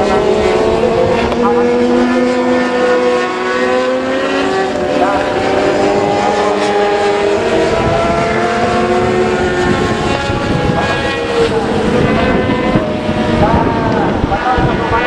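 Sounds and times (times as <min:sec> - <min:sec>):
racing motorcycles engines: 0:00.0 - 0:15.0.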